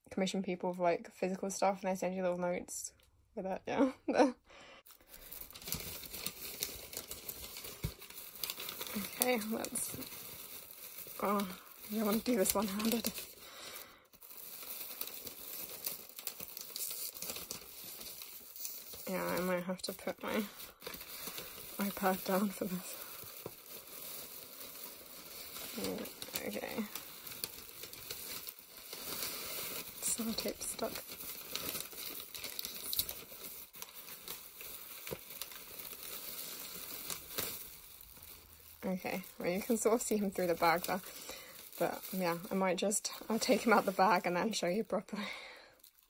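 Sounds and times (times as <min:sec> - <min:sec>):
paper and plastic bag rustling: 0:04.9 - 0:45.0.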